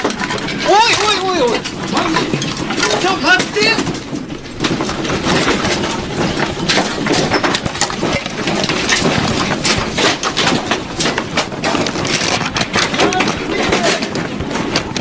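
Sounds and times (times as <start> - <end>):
objects rattling and clattering: 0.0 - 15.0.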